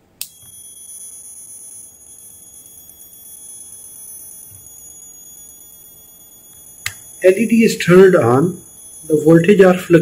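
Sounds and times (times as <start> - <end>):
power inverter high-pitched tone: 0.2 - 10.0.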